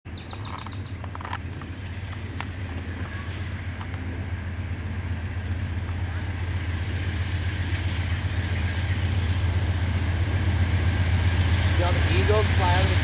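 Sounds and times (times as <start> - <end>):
diesel locomotive rumble: 0.1 - 13.0.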